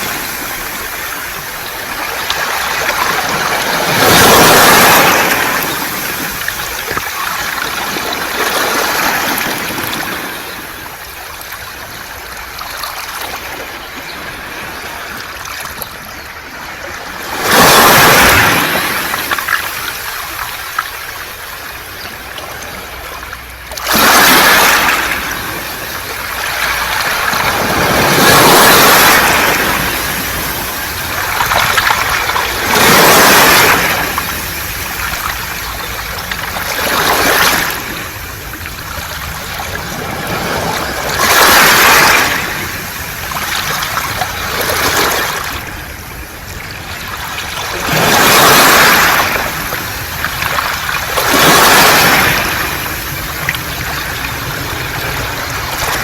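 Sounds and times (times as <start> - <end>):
sea waves surging: 0.0 - 56.0.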